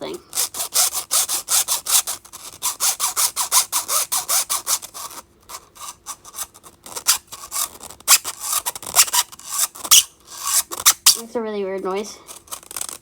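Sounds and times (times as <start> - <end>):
fidget toy layers rasping: 0.3 - 13.0.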